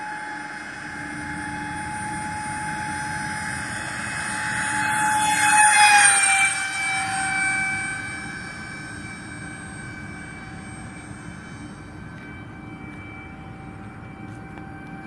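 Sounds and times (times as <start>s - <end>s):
electric ducted fans whining: 0.0s - 15.0s.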